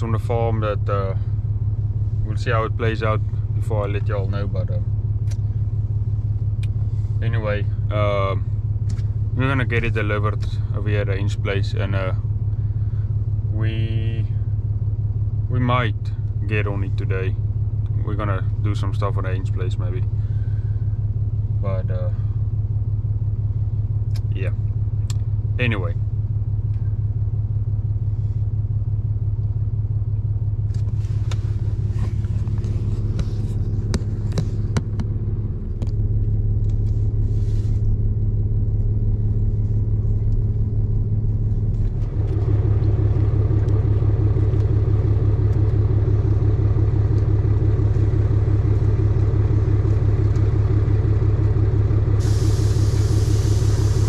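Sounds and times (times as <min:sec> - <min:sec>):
vehicle engine drone: 0:00.0 - 0:54.0.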